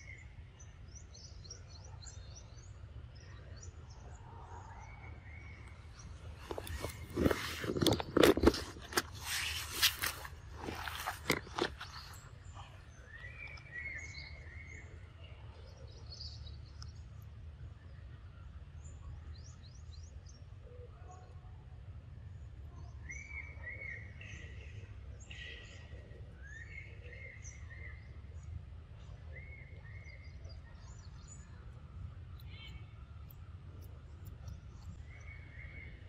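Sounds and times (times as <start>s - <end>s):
faint high bird chirps: 0.0s - 21.6s, 22.3s - 36.0s.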